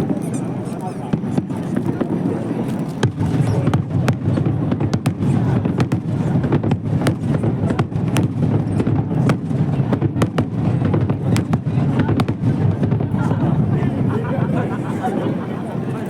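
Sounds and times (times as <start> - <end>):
fireworks crackling pops: 0.0 - 13.3.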